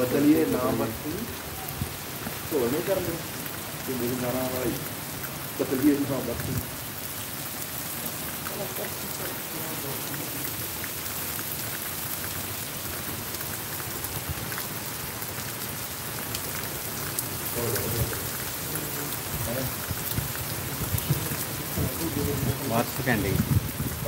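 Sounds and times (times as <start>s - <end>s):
rain on paving: 0.0s - 24.0s.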